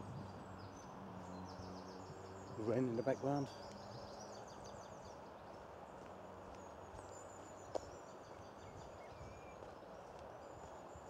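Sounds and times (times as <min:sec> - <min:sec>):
quiet outdoor background noise: 0:00.0 - 0:11.0
songbirds twittering: 0:00.0 - 0:11.0.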